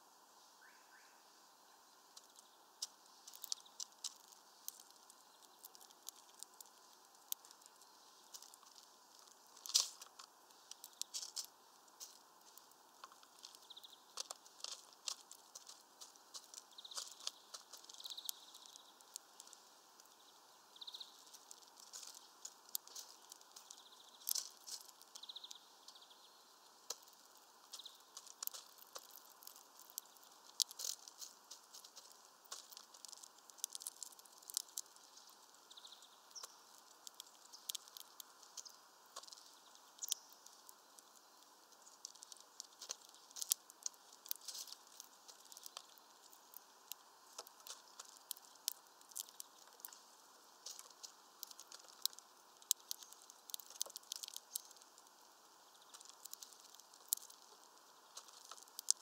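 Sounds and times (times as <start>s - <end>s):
bird pecking at feeder: 2.1s - 59.0s.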